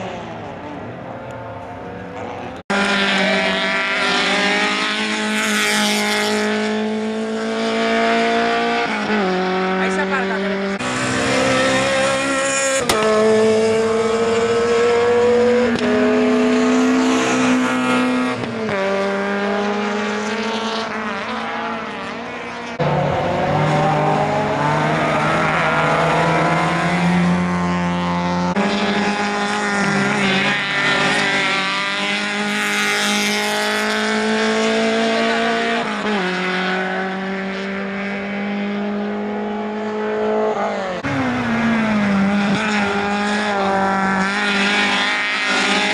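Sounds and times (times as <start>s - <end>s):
rally car engines revving hard: 0.0s - 45.9s.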